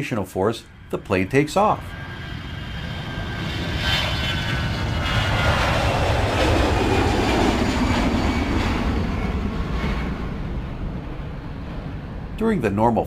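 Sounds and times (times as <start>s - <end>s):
faint high jet whine: 0.0s - 13.0s
jet airliner taking off: 0.0s - 13.0s.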